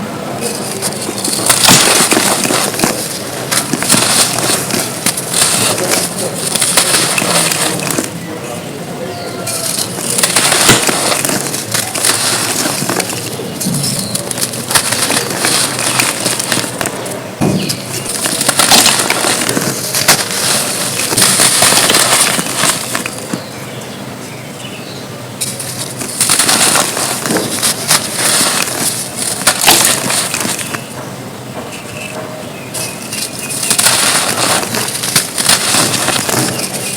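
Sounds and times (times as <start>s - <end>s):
dirt crunching and crumbling: 0.0s - 36.9s.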